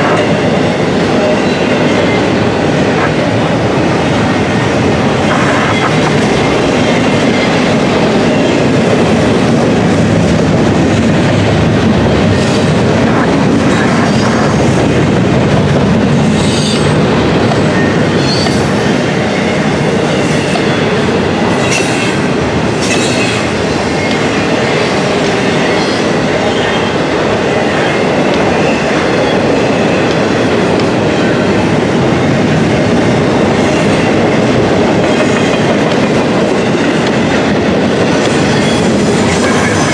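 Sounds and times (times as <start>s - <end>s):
freight train wheels rumbling: 0.0s - 39.9s
clickety-clack over rail joints: 0.1s - 39.9s.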